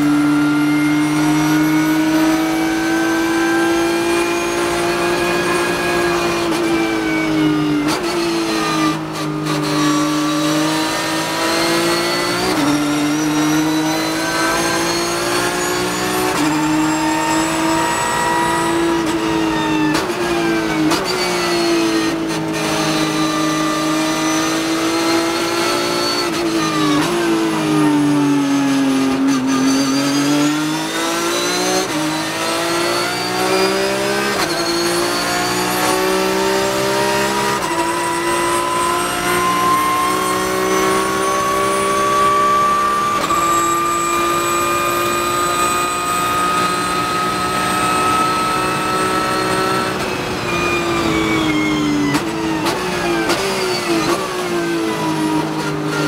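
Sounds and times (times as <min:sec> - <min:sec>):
race car engine under hard running: 0:00.0 - 0:56.0.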